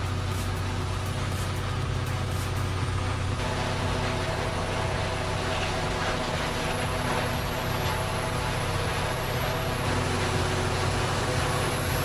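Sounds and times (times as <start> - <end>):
faint high whine: 0.0 - 12.0
heavy engine running: 0.0 - 12.0.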